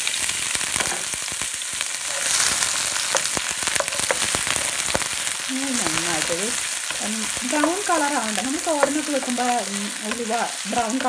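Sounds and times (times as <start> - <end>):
food sizzling in hot oil: 0.0 - 11.0
oil crackling and popping: 0.0 - 11.0.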